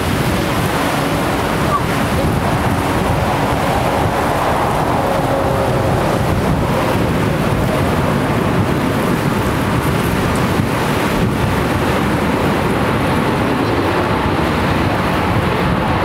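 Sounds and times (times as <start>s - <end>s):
jet engines rushing: 0.0s - 16.0s
wind rumbling on microphone: 0.0s - 16.0s.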